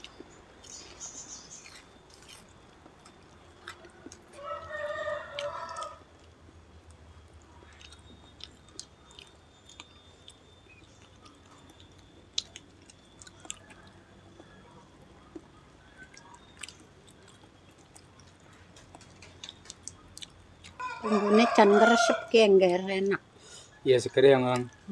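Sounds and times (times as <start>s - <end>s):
people chewing food: 0.0s - 24.9s.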